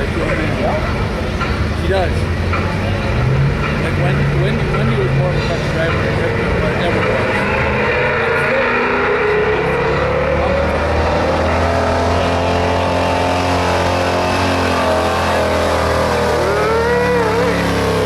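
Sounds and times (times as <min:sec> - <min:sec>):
truck engine under heavy load: 0:00.0 - 0:18.0.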